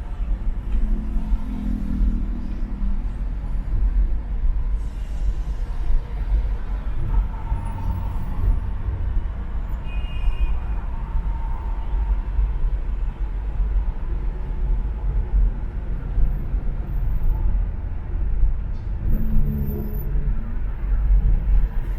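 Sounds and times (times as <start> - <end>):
car engine and tyre rumble: 0.0 - 21.9.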